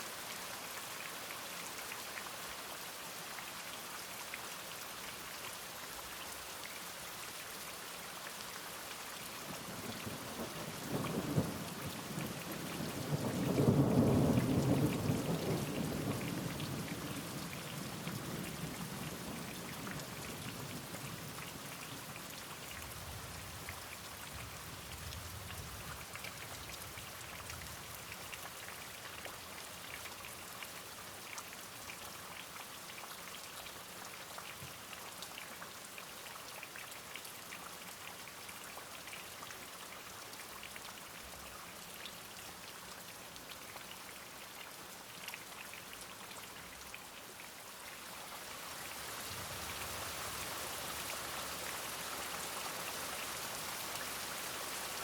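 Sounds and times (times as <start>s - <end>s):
rain drops ticking: 0.1s - 55.0s.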